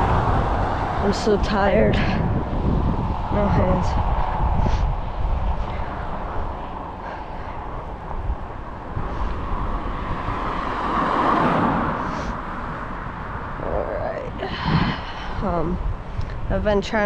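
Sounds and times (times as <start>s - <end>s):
bicycle tyre and road noise: 0.0s - 17.0s
wind buffeting microphone: 0.0s - 17.0s.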